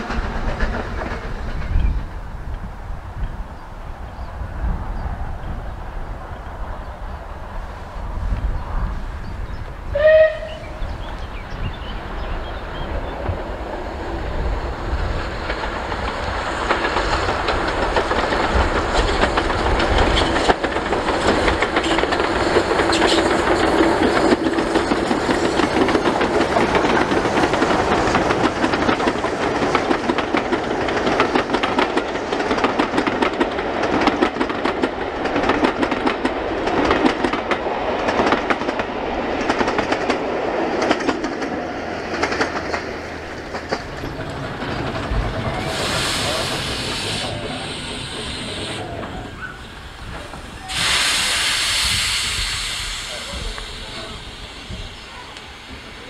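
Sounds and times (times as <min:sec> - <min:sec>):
steam train passing: 0:00.0 - 0:56.0.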